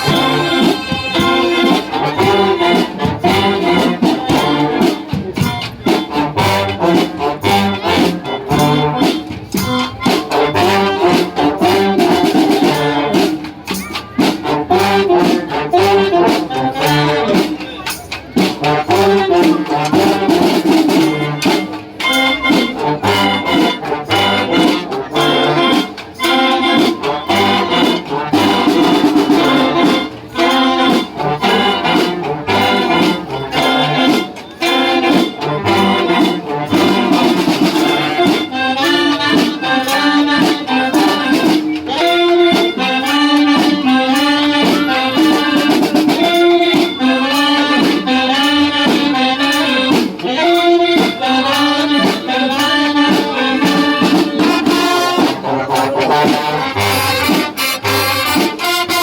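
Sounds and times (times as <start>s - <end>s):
brass band playing: 0.0s - 59.0s
steady drum beat: 0.0s - 59.0s.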